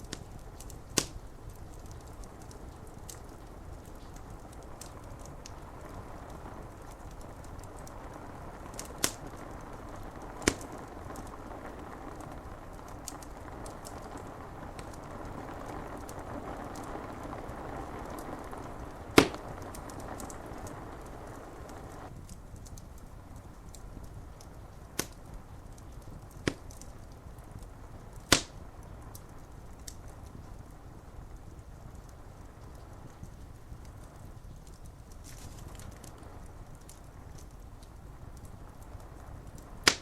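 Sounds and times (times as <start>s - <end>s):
rain on window glass: 0.0s - 40.0s
wood fire crackling and popping: 0.0s - 40.0s.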